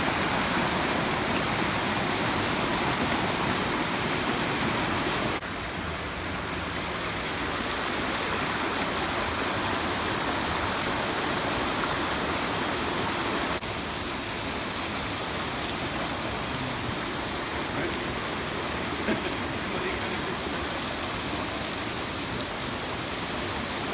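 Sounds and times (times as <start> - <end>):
rushing river water: 0.0 - 23.9.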